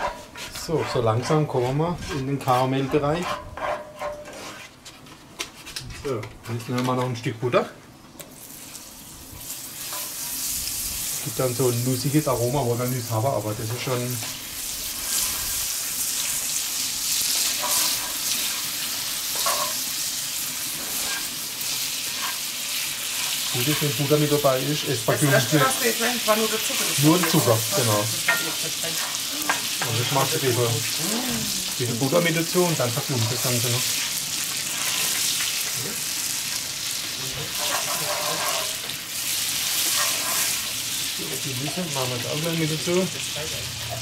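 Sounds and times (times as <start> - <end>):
wooden spatula scraping skillet: 0.0 - 7.0, 13.3 - 31.0, 31.6 - 36.1, 37.4 - 44.0
butter sizzling in caramel: 8.3 - 44.0.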